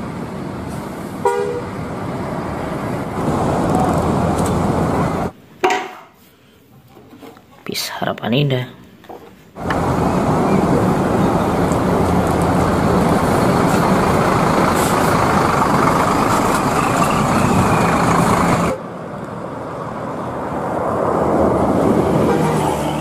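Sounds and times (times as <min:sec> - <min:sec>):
coach bus engine and road noise: 0:00.0 - 0:05.4, 0:08.9 - 0:23.0.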